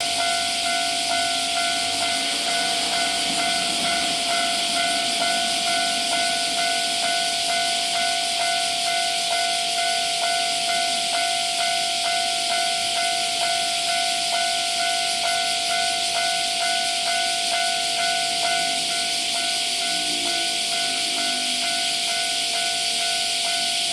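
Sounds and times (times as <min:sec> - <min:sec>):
crossing warning bell dinging: 0:00.0 - 0:23.9
steady high hiss: 0:00.0 - 0:23.9.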